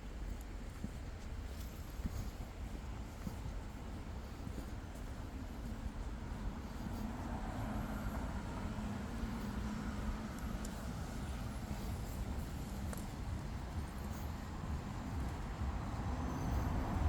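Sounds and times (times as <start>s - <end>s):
vehicle engine hum: 2.6s - 17.0s.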